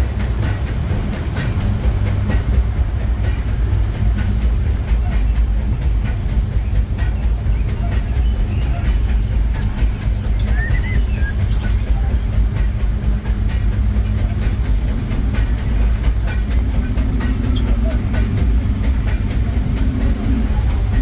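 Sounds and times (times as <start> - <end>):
railway coach rumbling: 0.0 - 21.0
train wheel clicks: 0.0 - 21.0.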